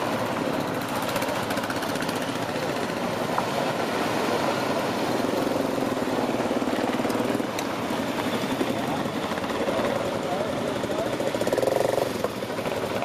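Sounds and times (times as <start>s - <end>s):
quad bike and motorcycle engines: 0.0s - 13.0s.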